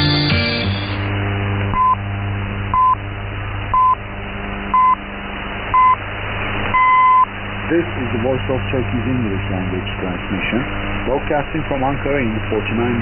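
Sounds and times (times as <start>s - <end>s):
shortwave hiss and hum: 0.0s - 13.0s.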